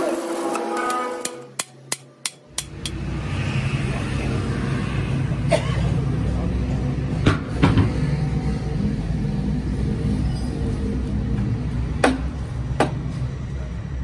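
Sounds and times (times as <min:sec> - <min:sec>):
road traffic rumble: 0:00.5 - 0:14.0.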